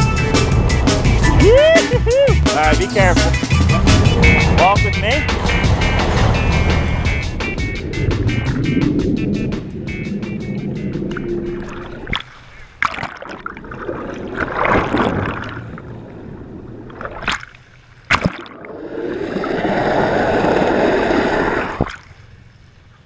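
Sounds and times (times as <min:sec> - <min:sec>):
rushing water wash: 0:00.0 - 0:22.4
seawater gurgling and splashing: 0:02.6 - 0:22.4.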